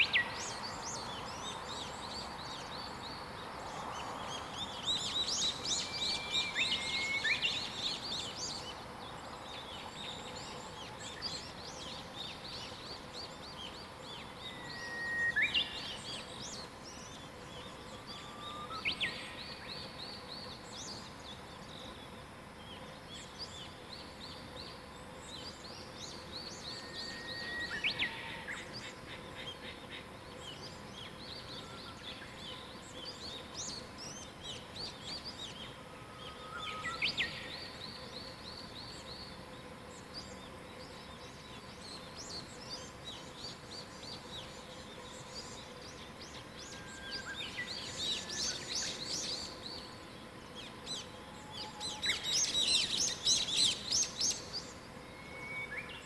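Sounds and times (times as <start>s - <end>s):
faint steady hiss: 0.0s - 56.0s
songbirds trilling: 0.0s - 56.0s.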